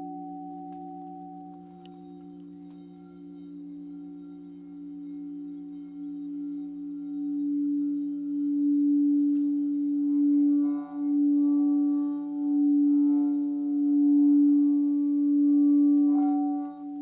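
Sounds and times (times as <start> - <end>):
crystal singing bowl ringing: 0.0 - 17.0.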